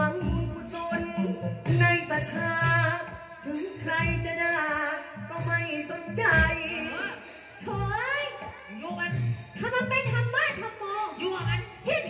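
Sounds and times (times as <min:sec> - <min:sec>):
instrumental accompaniment with low beat: 0:00.0 - 0:12.0.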